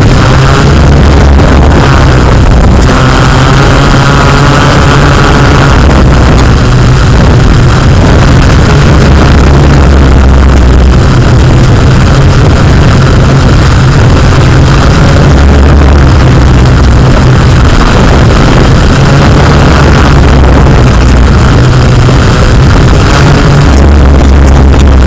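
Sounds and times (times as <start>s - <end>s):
drone motors and propellers: 0.0s - 25.0s.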